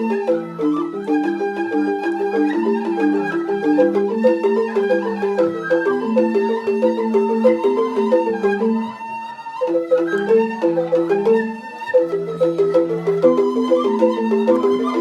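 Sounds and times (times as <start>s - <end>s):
bamboo xylophone playing: 0.0s - 15.0s
held melody line: 0.0s - 15.0s.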